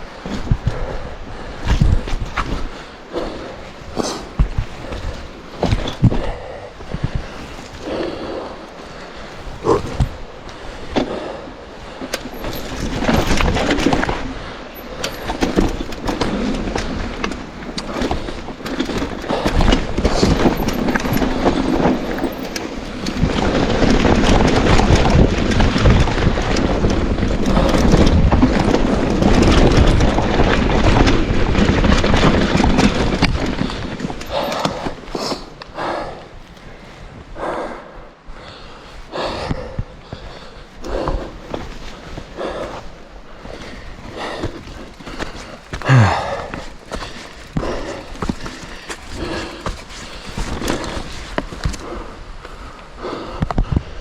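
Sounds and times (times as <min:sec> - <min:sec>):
tyres rumbling over dirt and rocks: 0:00.0 - 0:37.2, 0:38.3 - 0:53.8
bike rattling and knocking: 0:00.0 - 0:53.8
wind on microphone: 0:00.0 - 0:54.0.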